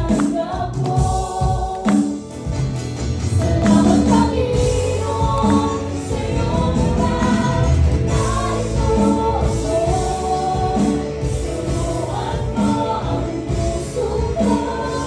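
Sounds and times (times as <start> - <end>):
group of singers singing: 0.0 - 2.4, 3.3 - 15.0
drums: 0.0 - 15.0.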